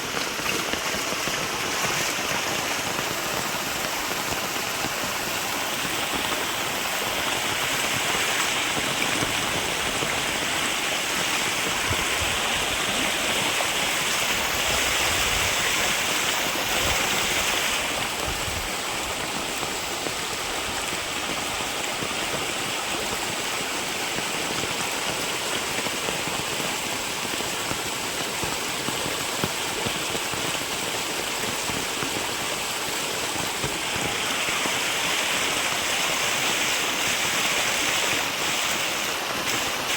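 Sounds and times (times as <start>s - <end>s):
rain and flowing rainwater: 0.0s - 39.9s.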